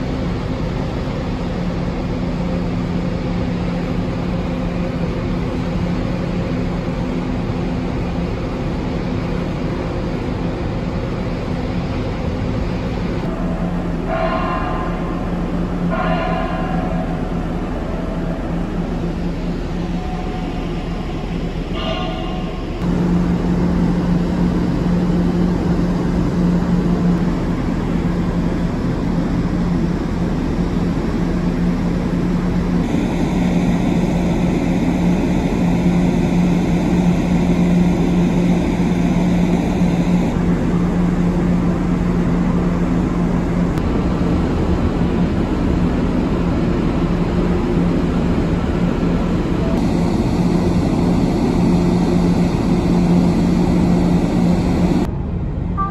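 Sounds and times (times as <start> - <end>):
low ship drone: 0.0 - 55.9.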